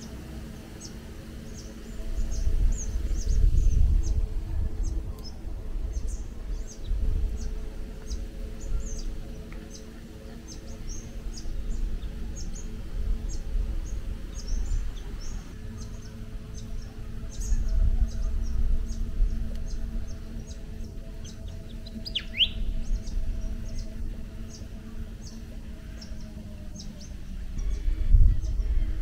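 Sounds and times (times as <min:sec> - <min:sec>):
small birds chirping: 0:00.0 - 0:29.0
soft held music tones: 0:00.0 - 0:29.0
wind rumble on microphone: 0:01.3 - 0:29.0.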